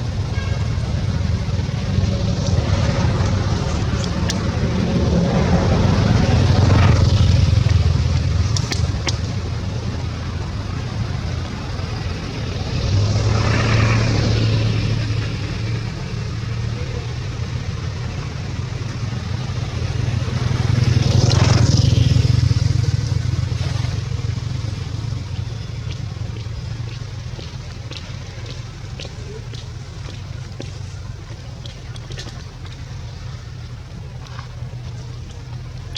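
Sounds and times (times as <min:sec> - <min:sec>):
low engine hum: 0:00.0 - 0:35.9
vehicles passing: 0:00.0 - 0:35.9.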